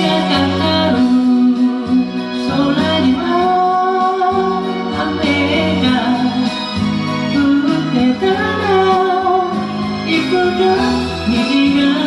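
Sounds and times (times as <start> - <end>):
guitar-led backing track: 0.0 - 12.0
person singing: 0.0 - 12.0.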